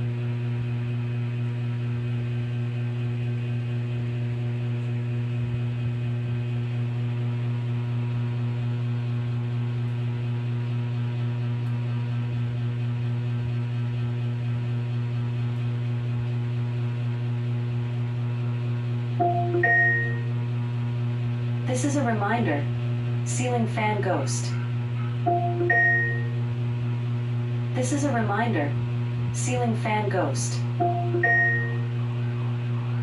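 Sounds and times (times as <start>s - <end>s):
ceiling fan humming: 0.0s - 33.0s.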